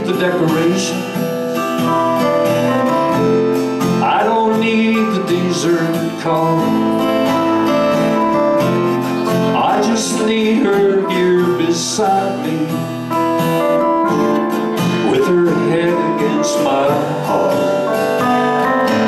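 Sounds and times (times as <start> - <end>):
man singing: 0.0 - 2.3, 3.2 - 8.2, 9.2 - 19.0
electric guitar: 0.0 - 19.0
strummed acoustic guitar: 0.0 - 19.0.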